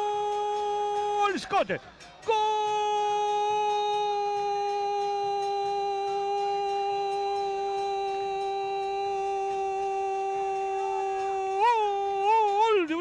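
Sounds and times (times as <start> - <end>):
commentator shouting goal cry: 0.0 - 13.0.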